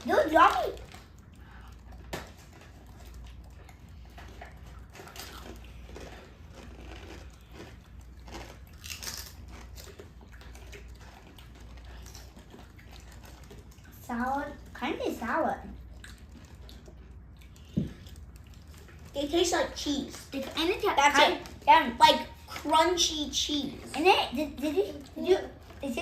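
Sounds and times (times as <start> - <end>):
crunchy snacks being chewed: 0.2 - 14.8, 15.6 - 25.8.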